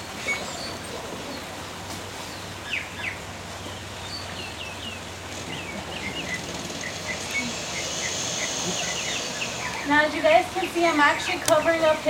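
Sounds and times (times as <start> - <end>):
outdoor background noise: 0.0 - 12.0
small birds chirping: 2.3 - 12.0.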